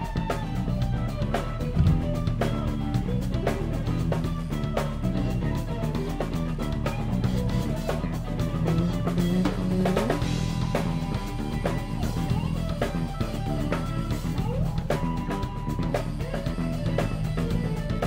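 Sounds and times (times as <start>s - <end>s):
band playing music: 0.0s - 18.0s
drum kit beat: 0.0s - 18.0s.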